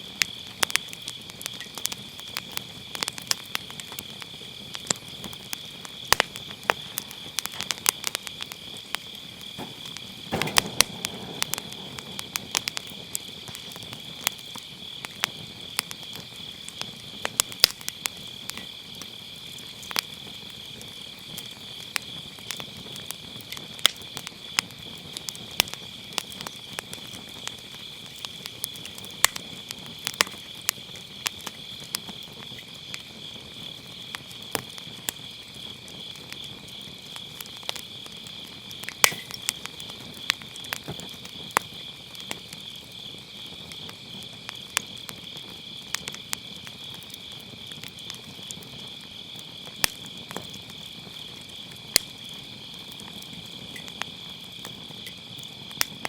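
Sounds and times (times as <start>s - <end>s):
firewood crackling and popping: 0.0s - 56.0s
insects chirring: 0.0s - 56.0s.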